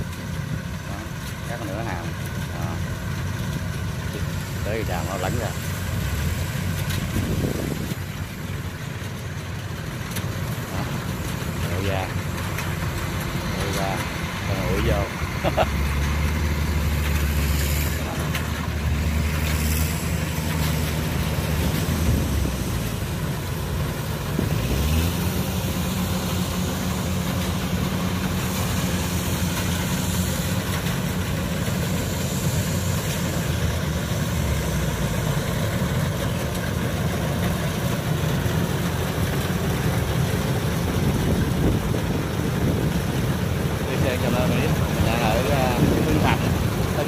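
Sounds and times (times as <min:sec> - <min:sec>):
diesel engine running under load: 0:00.0 - 0:47.0.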